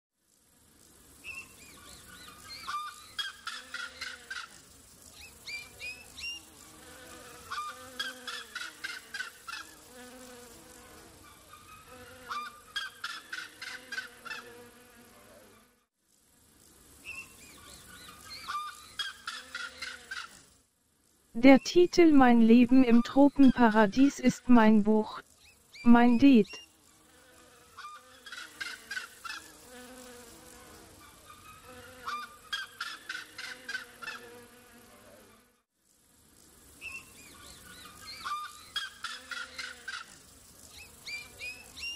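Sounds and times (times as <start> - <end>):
high insect hiss: 0.2 - 15.4, 16.1 - 21.3, 25.2 - 25.8, 26.5 - 41.9.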